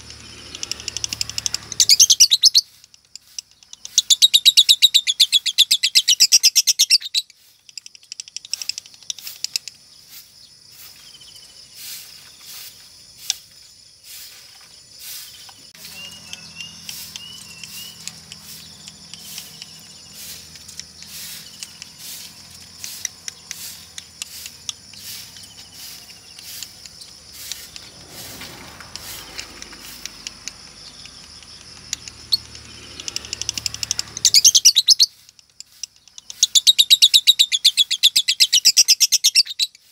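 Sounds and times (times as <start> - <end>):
bird chattering trill: 0.0 - 11.4, 15.0 - 31.3, 31.9 - 39.9
bird chirps and clicks: 0.0 - 11.6, 15.3 - 39.9.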